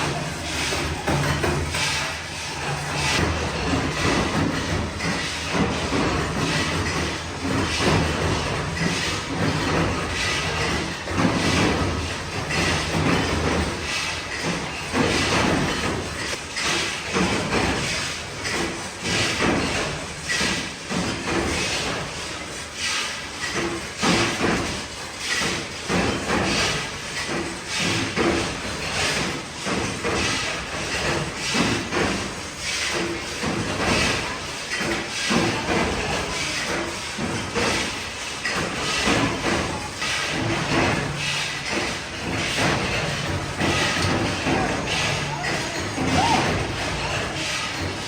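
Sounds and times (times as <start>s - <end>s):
machinery hiss and clatter: 0.0s - 48.0s.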